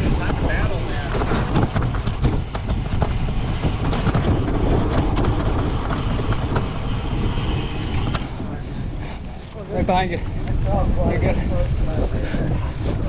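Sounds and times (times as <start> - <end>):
bike rattling and knocking: 0.0 - 13.0
wind rumble on microphone: 0.0 - 13.0.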